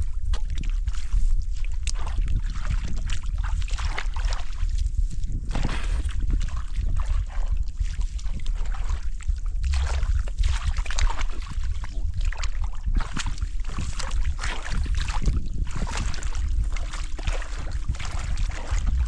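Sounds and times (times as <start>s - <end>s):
water splashing and sloshing: 0.0s - 19.0s
wind rumble on microphone: 0.0s - 19.0s.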